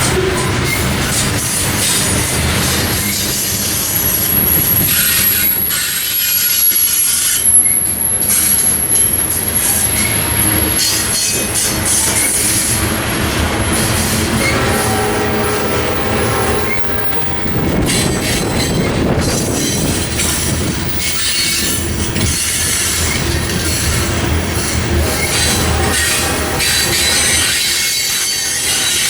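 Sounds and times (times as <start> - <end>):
freight train rolling past: 0.0 - 29.0
train wheel squeal: 0.0 - 29.0.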